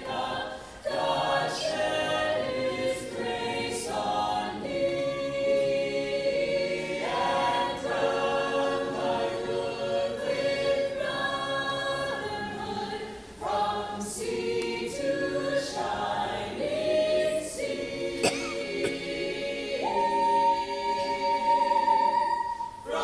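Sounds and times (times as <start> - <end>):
a cappella vocal ensemble singing: 0.0 - 23.0.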